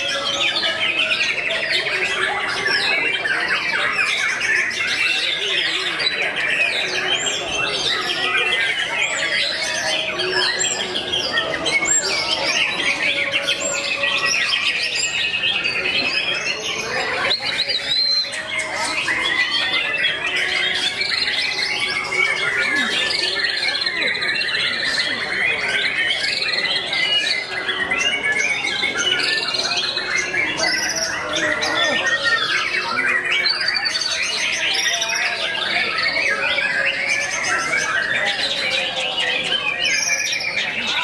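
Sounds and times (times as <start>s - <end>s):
songbirds chorus of whistles and trills: 0.0s - 41.0s.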